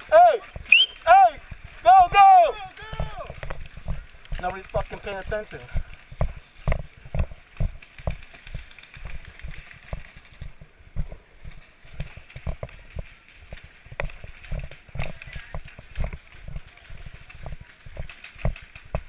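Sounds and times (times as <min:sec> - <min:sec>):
footsteps and gear thumps: 0:02.9 - 0:09.2, 0:09.8 - 0:19.0.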